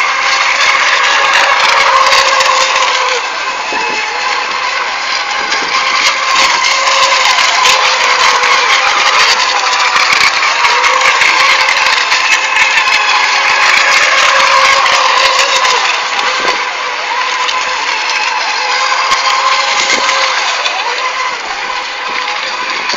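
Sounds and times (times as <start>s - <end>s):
model boat motors whining: 0.0s - 22.9s.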